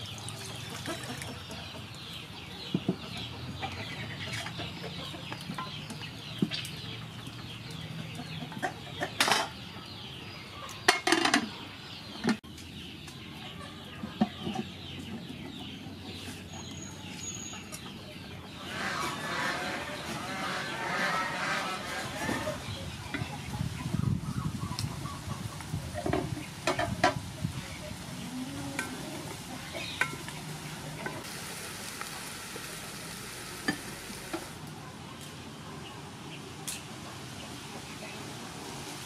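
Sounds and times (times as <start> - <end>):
chickens clucking: 0.0 - 31.3, 32.1 - 38.7.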